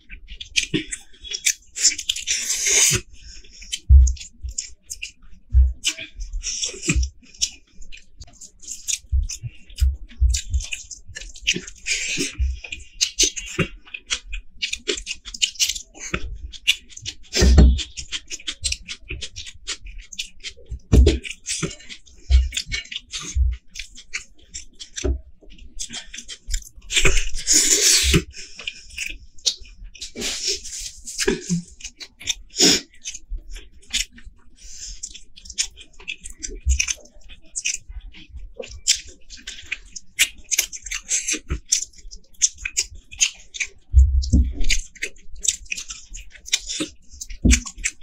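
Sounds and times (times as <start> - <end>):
close chewing and wet mouth sounds: 0.0 - 48.0.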